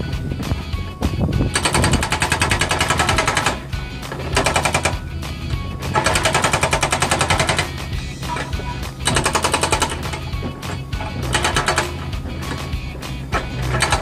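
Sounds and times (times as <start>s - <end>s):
excavator engine humming: 0.0s - 14.0s
hydraulic breaker hammering concrete: 1.4s - 5.2s, 5.8s - 14.0s.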